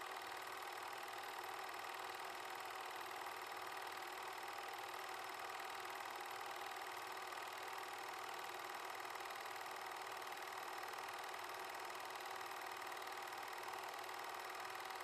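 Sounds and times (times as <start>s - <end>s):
film projector clattering: 0.2s - 15.0s.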